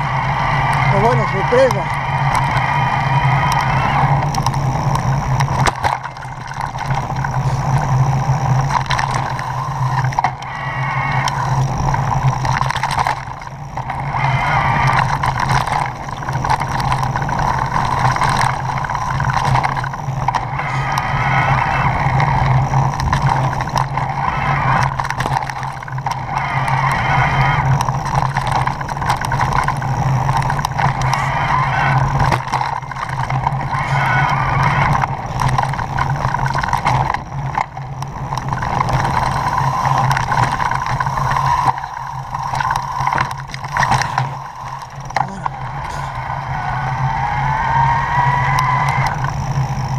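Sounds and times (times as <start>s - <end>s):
small motorbike engine running: 0.0s - 49.9s.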